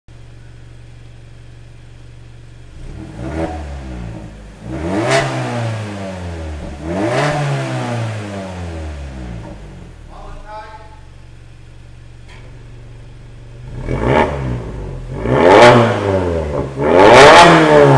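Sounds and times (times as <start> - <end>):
car engine idling and revving: 0.1 - 17.9.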